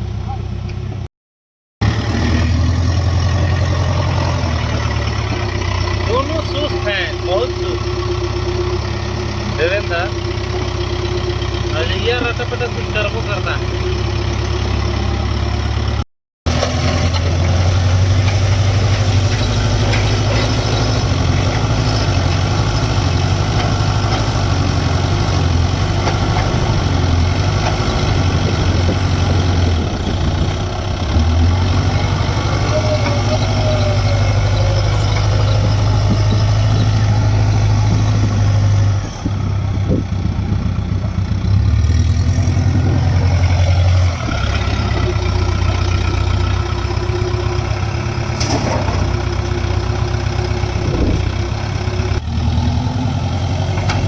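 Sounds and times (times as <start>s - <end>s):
heavy diesel engines running: 0.0s - 1.1s, 1.8s - 54.0s.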